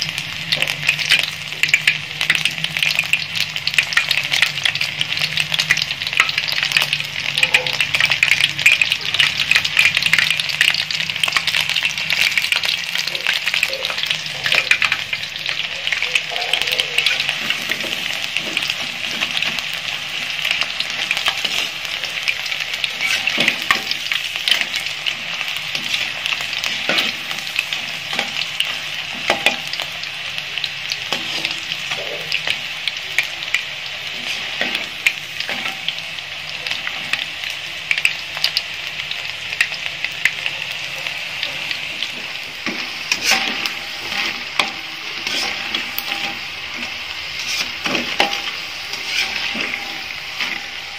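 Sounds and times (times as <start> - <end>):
hot oil sizzling and crackling: 0.0 - 50.9
skimmer stirring through oil: 0.0 - 50.9.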